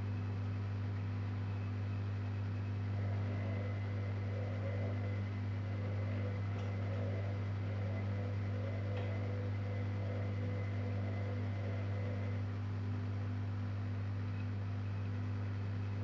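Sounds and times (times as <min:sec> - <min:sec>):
washer-dryer humming: 0:02.6 - 0:16.0.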